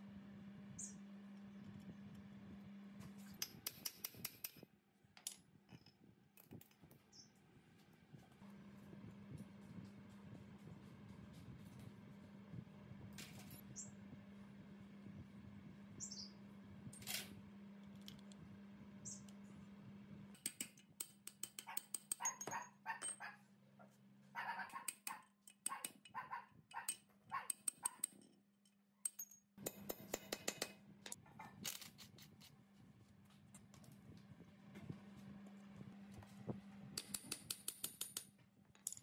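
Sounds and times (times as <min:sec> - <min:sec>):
steady low hum: 0:00.0 - 0:04.6, 0:05.5 - 0:26.7, 0:29.6 - 0:37.7.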